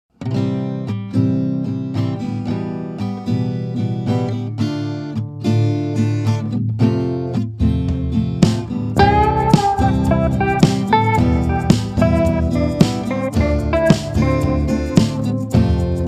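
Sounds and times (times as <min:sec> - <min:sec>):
acoustic guitar tune: 0:00.1 - 0:16.0.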